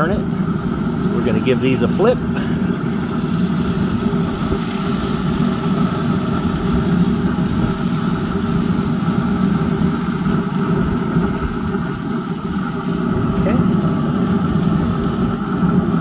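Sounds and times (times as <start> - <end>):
fan humming: 0.0 - 16.0.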